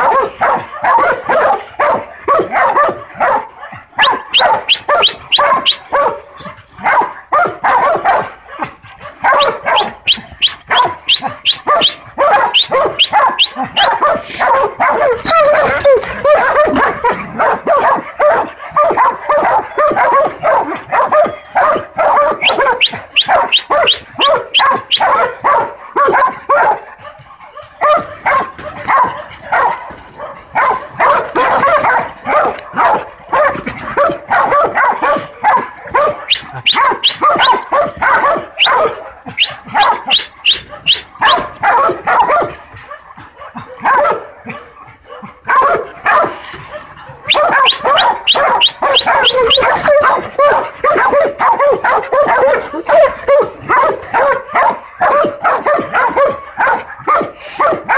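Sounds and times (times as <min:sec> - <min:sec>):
dogs barking rapidly: 0:00.0 - 0:57.9.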